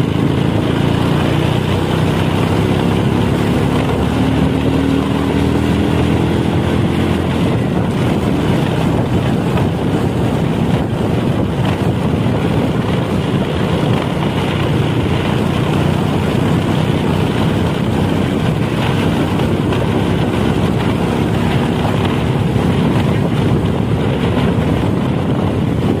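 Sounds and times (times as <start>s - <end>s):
vehicle running: 0.0s - 26.0s
wind buffeting microphone: 0.0s - 26.0s.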